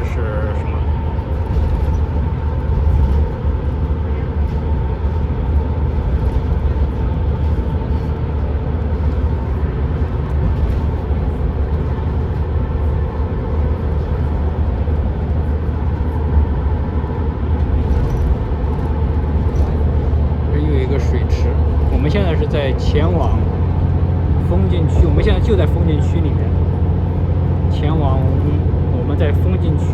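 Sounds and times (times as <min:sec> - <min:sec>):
engine and road rumble: 0:00.0 - 0:29.9.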